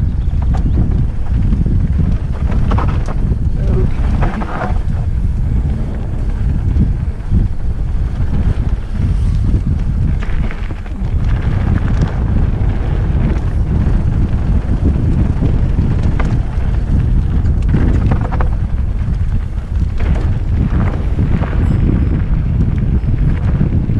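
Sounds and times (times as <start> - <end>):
bike rattling over bumps: 0.0 - 23.9
bike tyre noise: 0.0 - 23.9
wind buffeting microphone: 0.0 - 23.9.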